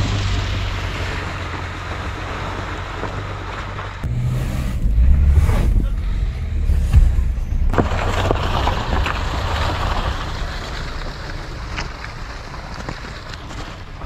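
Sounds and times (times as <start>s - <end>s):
moving car drone: 0.0s - 14.0s
tyres crunching over snow and ice: 0.0s - 14.0s.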